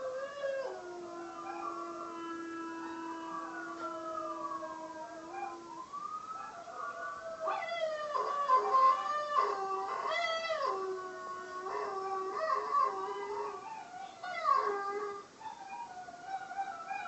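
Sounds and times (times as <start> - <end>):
dog howling: 0.0 - 17.0.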